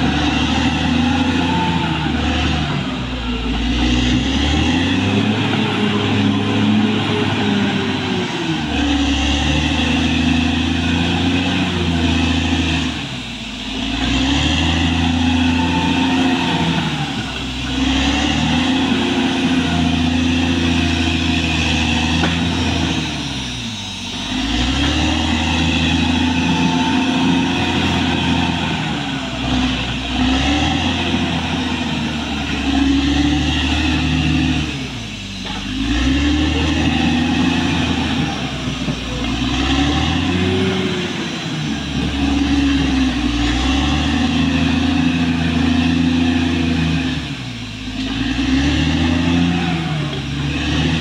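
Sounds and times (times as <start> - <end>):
bulldozer diesel engine running hard: 0.0 - 51.0.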